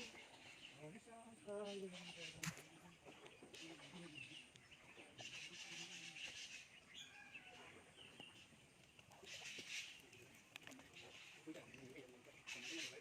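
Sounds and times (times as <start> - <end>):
faint bird chirps: 0.0 - 13.0
rural outdoor ambience: 0.0 - 13.0.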